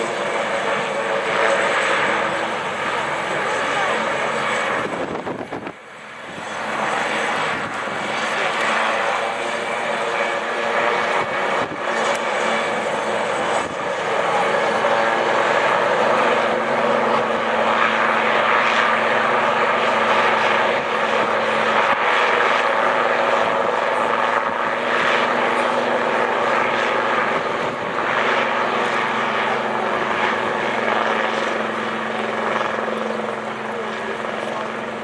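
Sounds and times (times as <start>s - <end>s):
helicopter flying past: 0.0s - 35.0s.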